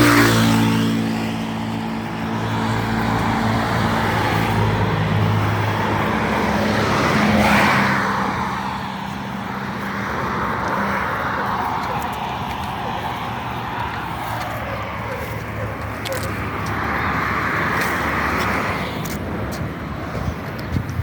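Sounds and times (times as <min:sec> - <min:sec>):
vehicle engine hum: 0:00.0 - 0:21.0
vehicle passing: 0:00.0 - 0:21.0.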